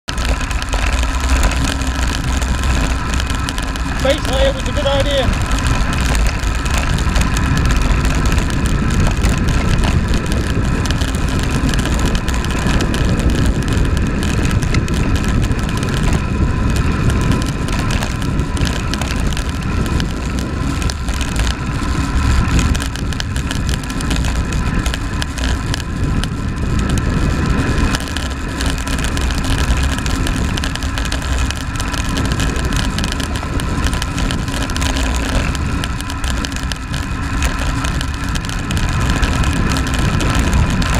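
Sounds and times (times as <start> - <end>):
road and tyre rumble: 0.0 - 40.9
wind buffeting camera: 0.0 - 40.9.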